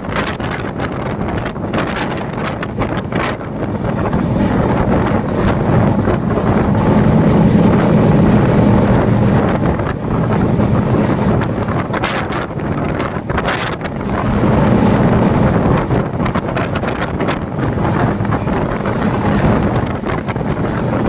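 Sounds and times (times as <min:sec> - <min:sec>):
wind buffeting microphone: 0:00.0 - 0:21.0
low rumble: 0:02.8 - 0:21.0.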